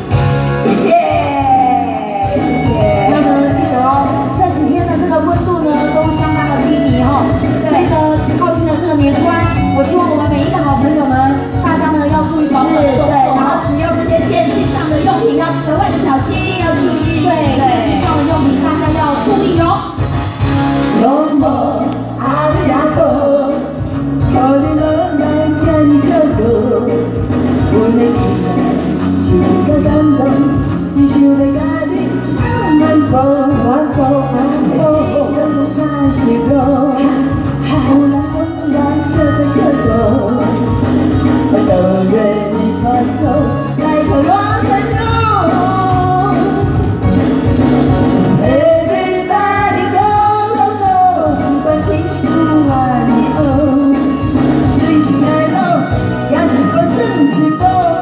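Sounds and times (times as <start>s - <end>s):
amplified backing music: 0.0s - 58.0s
women singing through pa: 0.6s - 19.7s, 21.0s - 46.9s, 48.3s - 58.0s.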